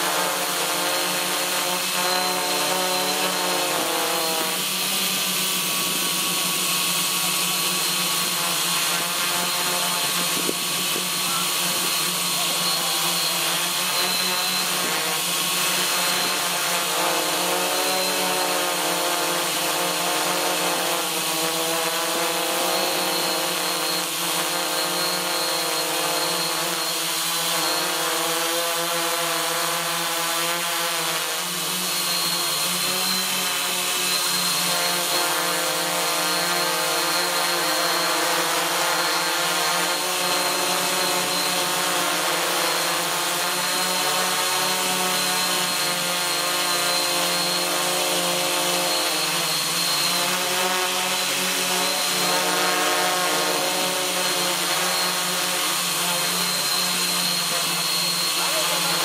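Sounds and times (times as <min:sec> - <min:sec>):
drone motors and propellers whining: 0:00.0 - 0:59.0.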